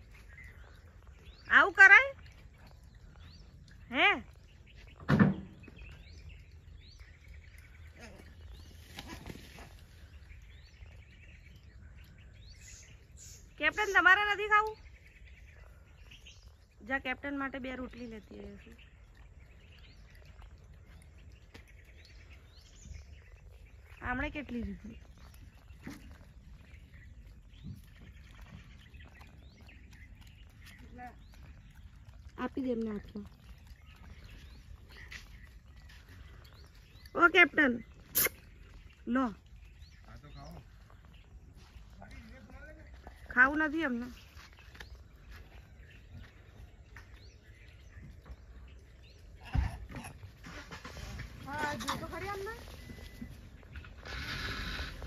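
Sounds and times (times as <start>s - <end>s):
faint bird chirps: 0.0s - 55.0s
faint outdoor ambience: 0.0s - 55.0s.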